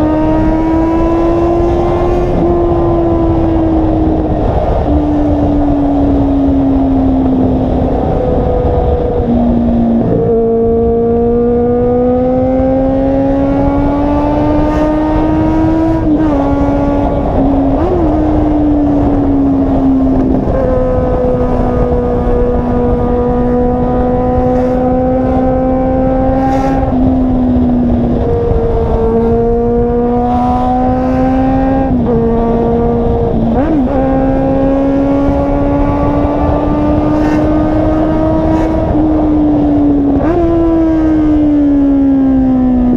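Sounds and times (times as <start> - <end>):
car engine and exhaust droning: 0.0 - 42.9.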